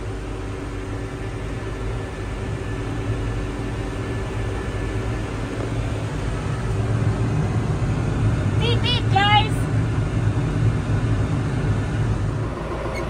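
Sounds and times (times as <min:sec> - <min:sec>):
road noise: 0:00.0 - 0:13.0
vehicle engine hum from inside: 0:00.0 - 0:13.0.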